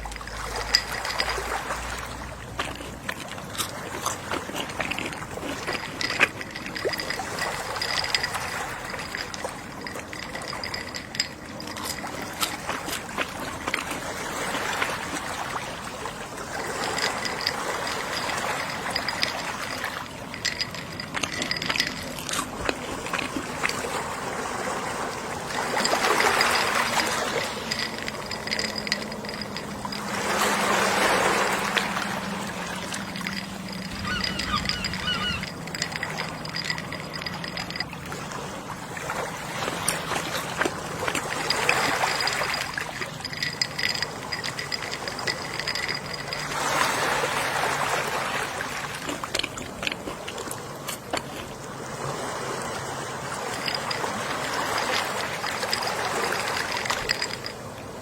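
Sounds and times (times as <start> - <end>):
sea waves washing in: 0.0 - 49.4.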